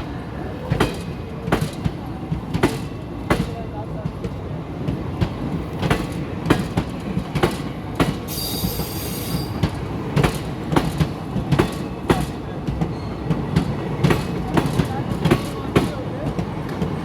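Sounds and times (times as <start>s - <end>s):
train rumble: 0.0s - 17.0s
train wheels clacking on rails: 0.0s - 17.0s.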